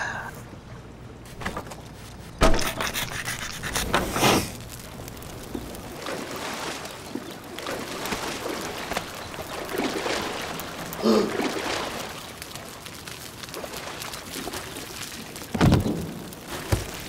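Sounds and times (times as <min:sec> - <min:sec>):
water sloshing and dripping: 0:00.5 - 0:17.0.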